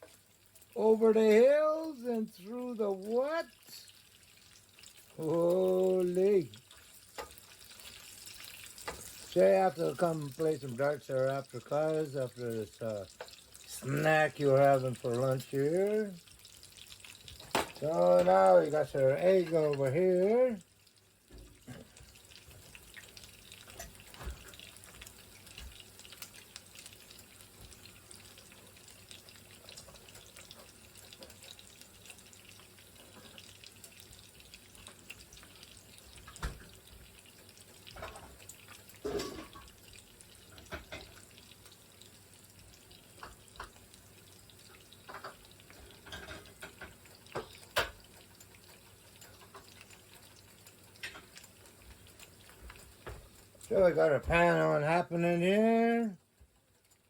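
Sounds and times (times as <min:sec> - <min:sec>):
faint water-like hiss: 0:00.0 - 0:56.6.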